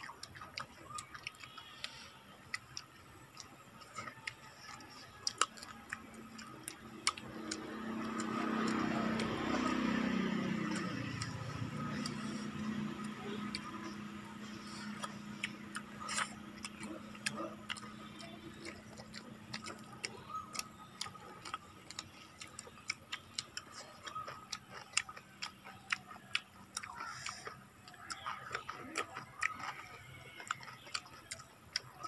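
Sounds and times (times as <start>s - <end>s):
faint steady hum: 0.0s - 32.0s
lip smacks: 0.0s - 32.0s
open-mouth chewing: 0.0s - 32.0s.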